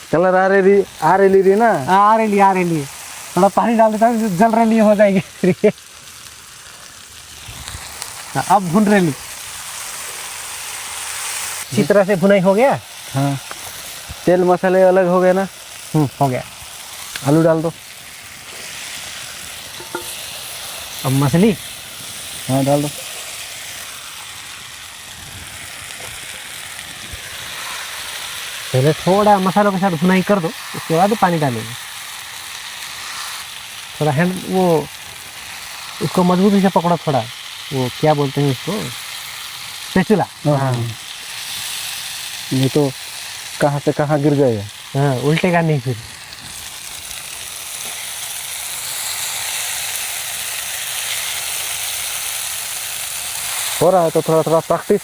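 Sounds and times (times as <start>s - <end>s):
potatoes sizzling in oil: 0.0s - 55.0s.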